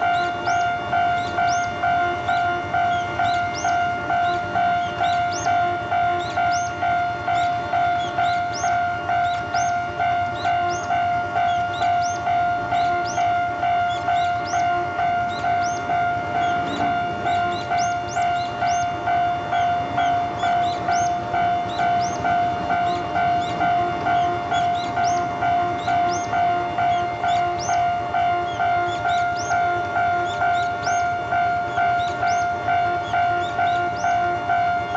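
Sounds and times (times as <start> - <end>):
electronic crossing warning bell: 0.0 - 34.9.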